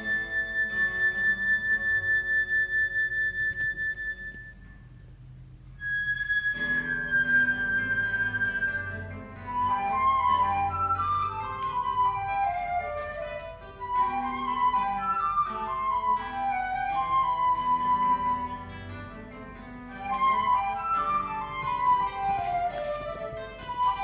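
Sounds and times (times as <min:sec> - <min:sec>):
plucked classical guitar: 0:00.0 - 0:04.5, 0:06.5 - 0:24.0
flute melody: 0:00.0 - 0:04.9, 0:05.7 - 0:24.0.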